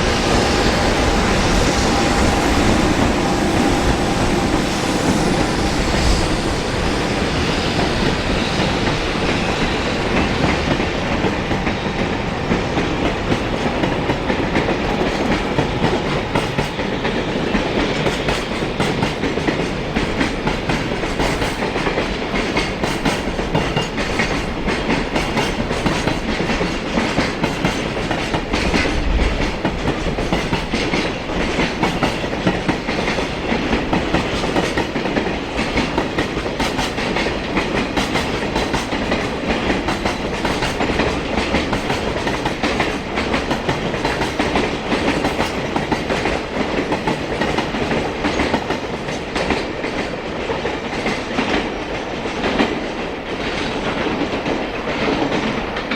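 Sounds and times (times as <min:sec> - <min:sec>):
train wheels clacking over rail joints: 0:00.0 - 0:55.9.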